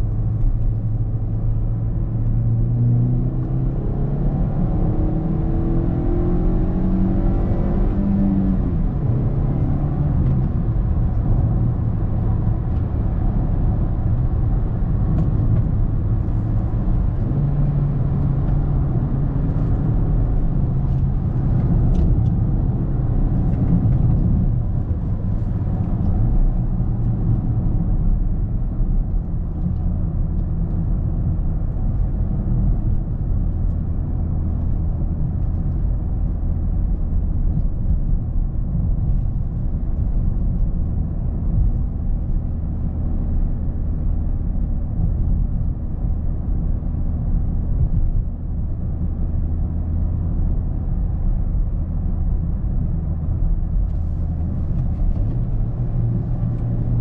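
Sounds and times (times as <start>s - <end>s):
car engine from inside cabin: 0.0s - 57.0s
road noise: 0.0s - 57.0s.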